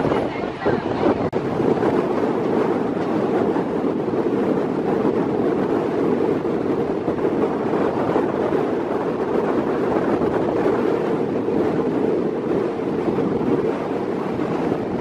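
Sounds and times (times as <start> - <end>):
wind rushing across microphone: 0.0 - 15.0.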